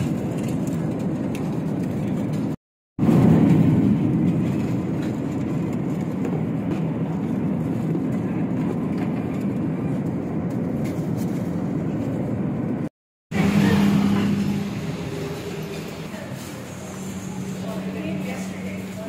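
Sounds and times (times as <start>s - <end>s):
airplane cabin noise: 0.0s - 19.0s.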